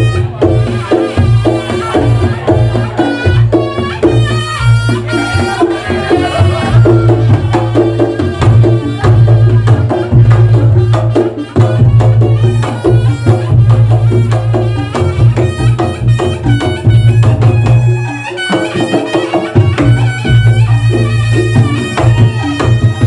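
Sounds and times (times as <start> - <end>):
fast hand drumming: 0.0 - 23.0.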